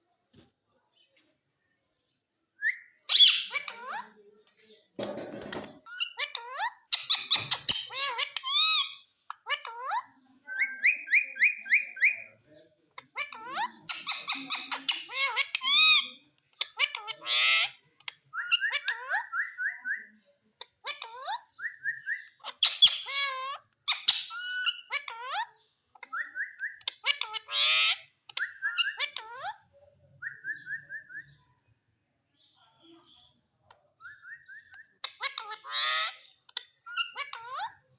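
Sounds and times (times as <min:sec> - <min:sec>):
parakeet squeaking and trilling: 0:02.7 - 0:04.2, 0:05.2 - 0:12.4, 0:13.0 - 0:31.5, 0:34.0 - 0:37.9.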